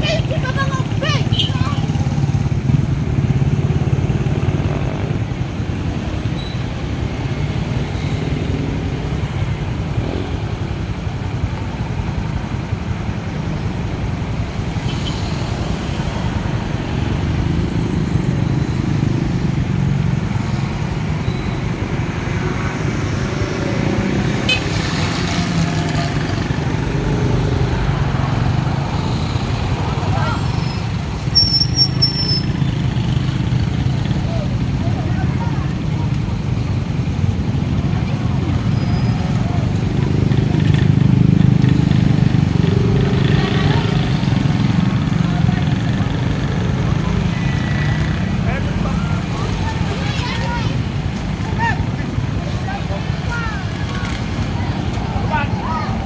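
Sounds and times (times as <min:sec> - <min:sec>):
traffic passing close by: 0:00.0 - 0:56.0.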